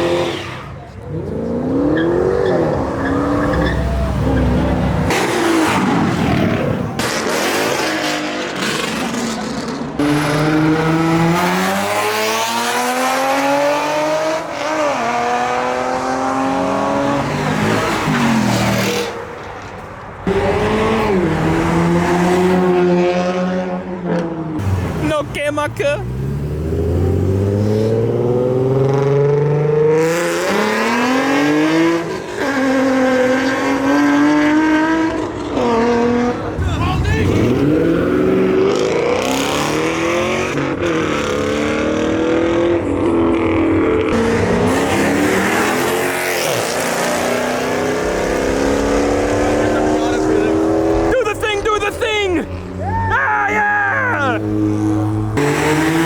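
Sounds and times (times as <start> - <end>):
car engine revving hard: 1.2 - 19.2, 20.3 - 23.9, 26.0 - 51.8, 54.3 - 56.0.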